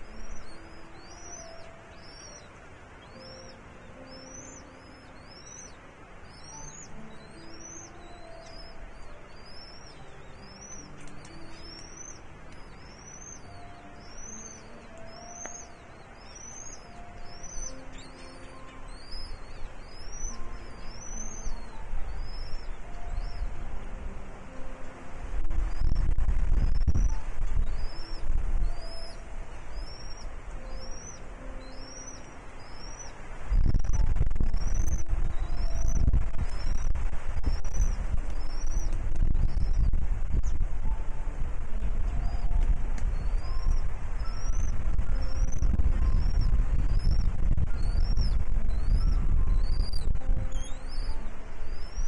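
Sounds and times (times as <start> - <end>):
bird's high rising call: 0.0 - 23.7, 25.6 - 41.2, 42.0 - 52.0
eagle chirping: 0.0 - 23.7, 25.6 - 52.0
faint held musical notes: 0.0 - 52.0
low rumbling noise: 0.0 - 52.0.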